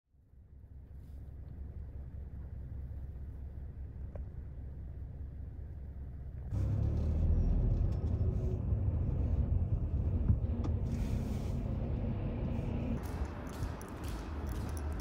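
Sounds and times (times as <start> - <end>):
road and engine rumble in car: 0.4 - 15.0.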